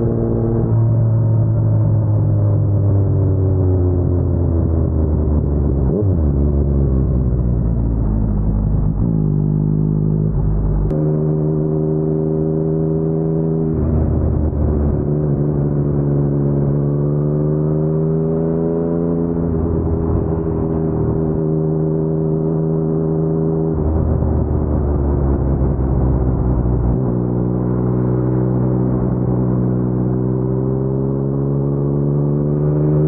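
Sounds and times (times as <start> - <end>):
motorcycle engine at low revs: 0.0 - 33.0.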